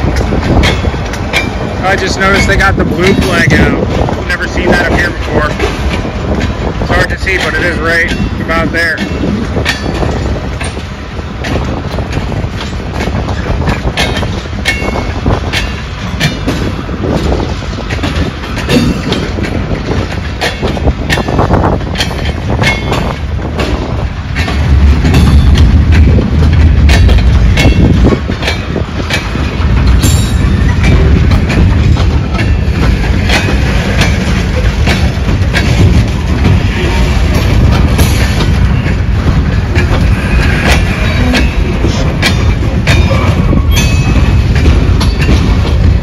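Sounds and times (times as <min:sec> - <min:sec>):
freight train rumbling: 0:00.0 - 0:46.0
wheels clicking over rail joints: 0:00.0 - 0:46.0.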